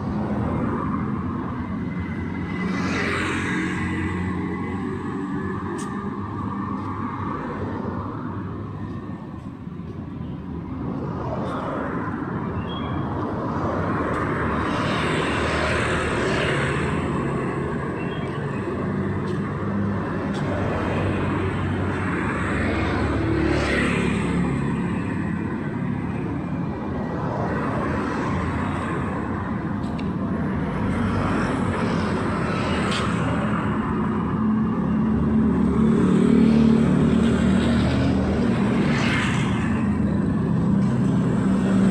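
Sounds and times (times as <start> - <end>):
road traffic rumble: 0.0 - 41.9
vehicles passing: 0.0 - 41.9.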